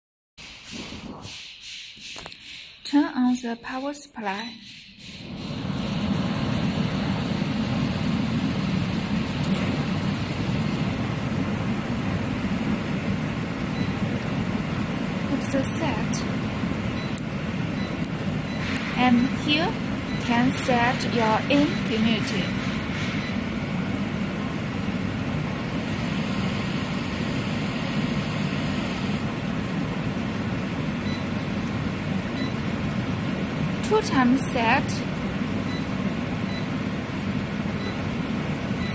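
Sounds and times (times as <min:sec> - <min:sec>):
dehumidifier fan whirr: 0:02.1 - 0:38.9.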